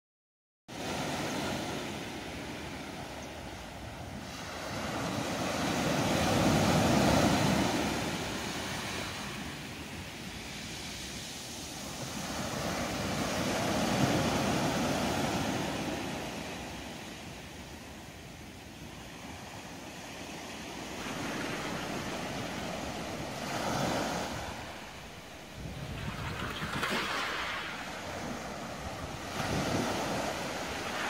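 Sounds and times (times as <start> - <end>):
ocean waves washing: 0.7 - 31.0.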